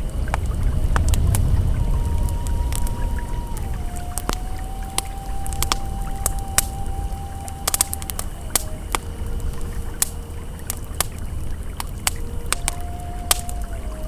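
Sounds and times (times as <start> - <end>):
campfire crackling and popping: 0.0 - 14.0
flowing river rush: 0.0 - 14.0
soft held ambient tone: 0.0 - 14.0.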